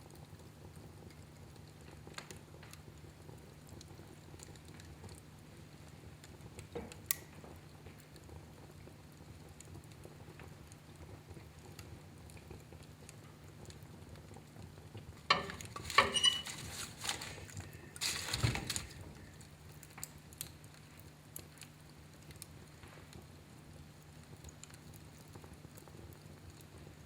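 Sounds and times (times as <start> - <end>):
wood fire crackling: 0.0 - 27.0
fire popping loudly: 0.2 - 27.0.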